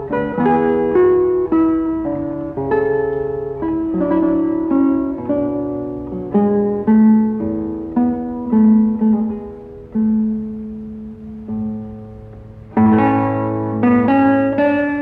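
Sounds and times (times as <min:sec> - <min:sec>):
solo classical guitar: 0:00.0 - 0:15.0.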